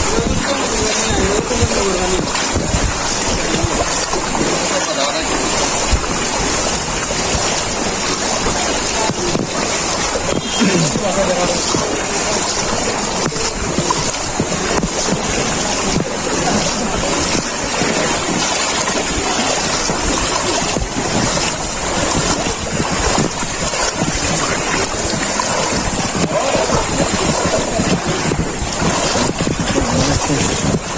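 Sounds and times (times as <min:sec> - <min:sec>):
wind buffeting microphone: 0:00.0 - 0:04.6, 0:05.2 - 0:30.9
floodwater rushing: 0:00.0 - 0:30.9.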